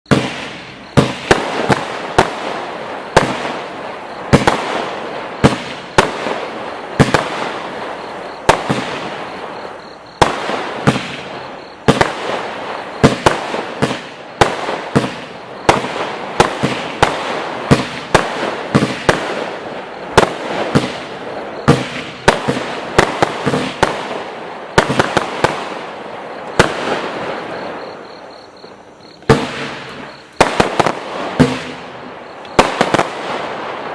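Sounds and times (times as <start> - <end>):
firework bangs: 0.1 - 33.9
firework crackling: 0.1 - 33.9.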